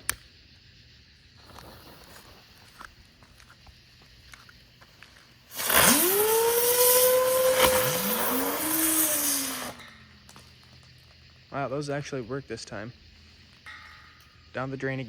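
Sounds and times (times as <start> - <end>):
whistling fireworks hissing: 0.0 - 15.0.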